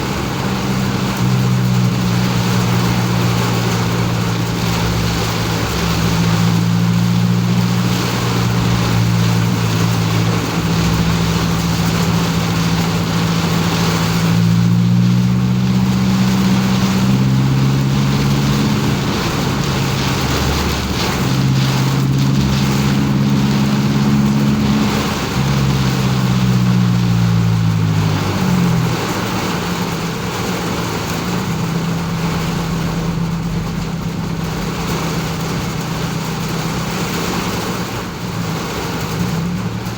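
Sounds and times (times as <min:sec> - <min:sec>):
car engine hum: 0:00.0 - 0:39.9
rain: 0:00.0 - 0:39.9
tyres hissing on wet pavement: 0:00.0 - 0:39.9.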